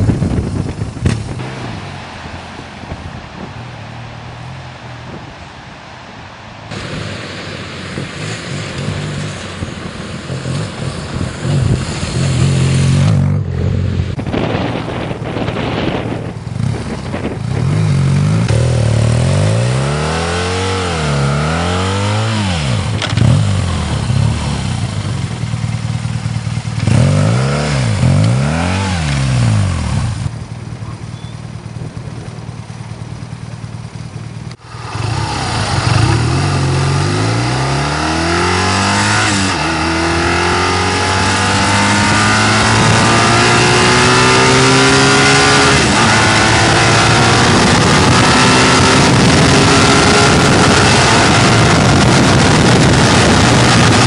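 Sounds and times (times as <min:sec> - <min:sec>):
motorcycle engine revving: 0:06.7 - 0:54.0.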